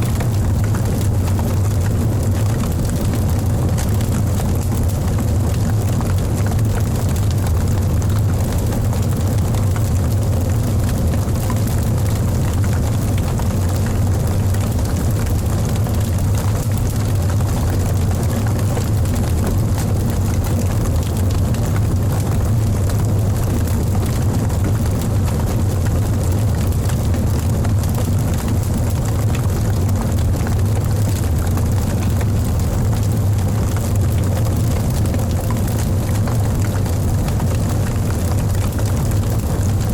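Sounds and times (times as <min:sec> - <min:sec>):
burning logs crackling and popping: 0:00.0 - 0:39.9
fire low rumble: 0:00.0 - 0:39.9.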